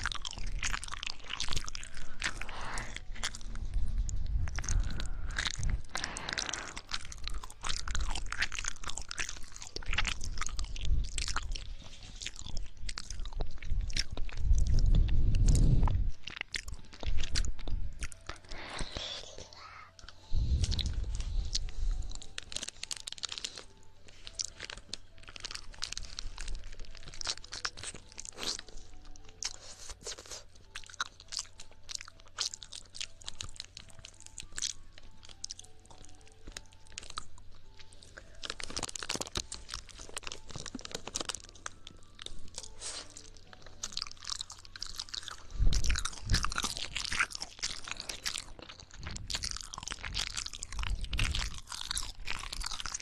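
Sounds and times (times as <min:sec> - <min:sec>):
soft held-note music: 0:00.0 - 0:53.0.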